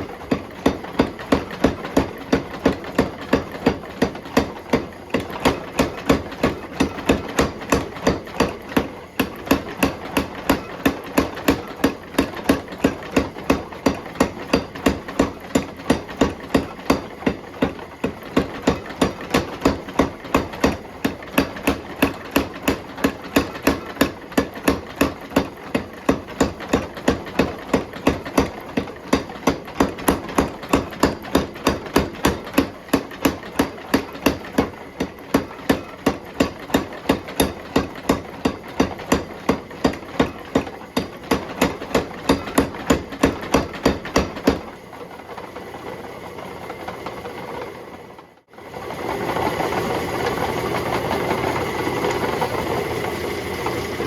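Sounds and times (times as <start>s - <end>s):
hammer striking hot steel: 0.2s - 44.7s.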